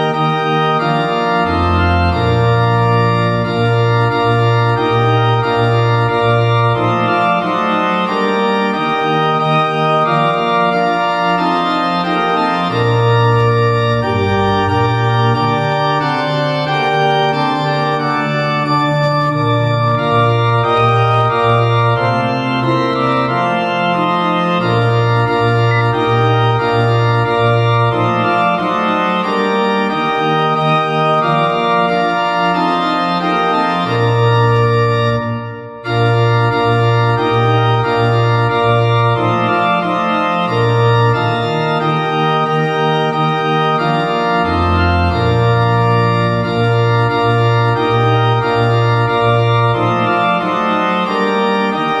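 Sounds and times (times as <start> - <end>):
organ playing a hymn: 0.0 - 52.0.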